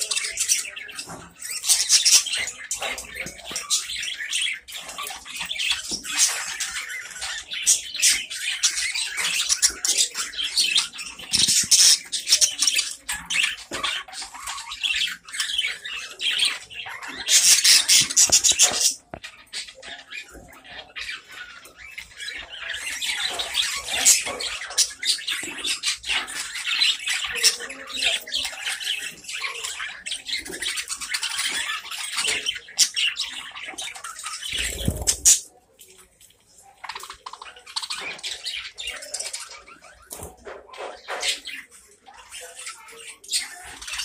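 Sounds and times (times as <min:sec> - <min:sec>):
budgerigars chattering and squawking: 0:00.0 - 0:44.0.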